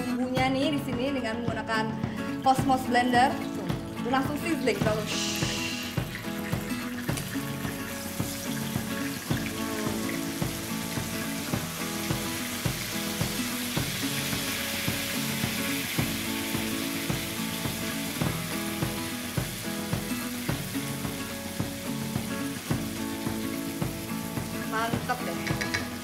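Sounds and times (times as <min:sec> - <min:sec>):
background music: 0:00.0 - 0:26.0
spice paste sizzling in hot oil: 0:04.7 - 0:26.0.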